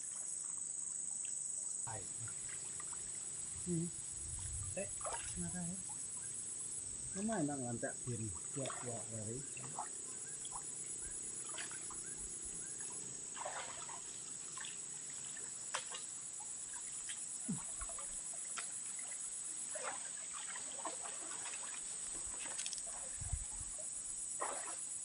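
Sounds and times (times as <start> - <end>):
high-pitched insect drone: 1.6 - 25.0
water sloshing and splashing: 1.9 - 25.0.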